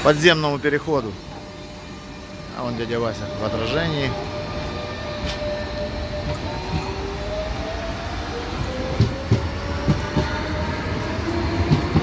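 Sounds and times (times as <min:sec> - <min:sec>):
low train rumble: 0:00.0 - 0:12.0
electric train motor whine: 0:00.6 - 0:12.0.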